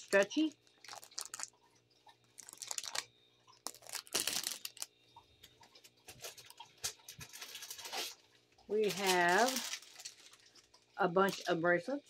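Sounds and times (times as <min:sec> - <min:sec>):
plastic bag crinkling: 0:00.0 - 0:05.0, 0:05.8 - 0:11.9.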